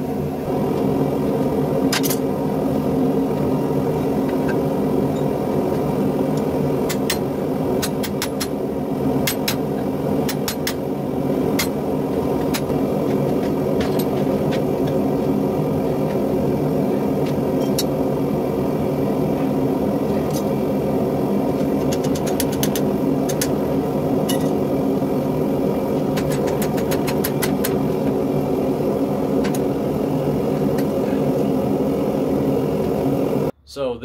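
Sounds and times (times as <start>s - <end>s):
forge drone: 0.0s - 33.6s.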